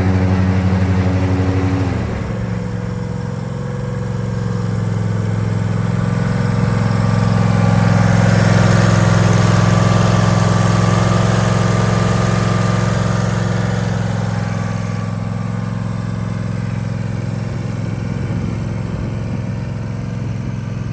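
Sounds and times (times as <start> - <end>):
lawn mower engine running: 0.0 - 20.9.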